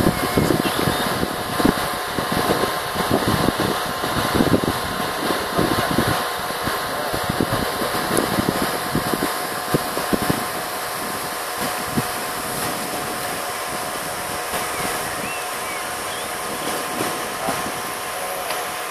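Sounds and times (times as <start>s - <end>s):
wind blowing across microphone: 0.0s - 18.9s.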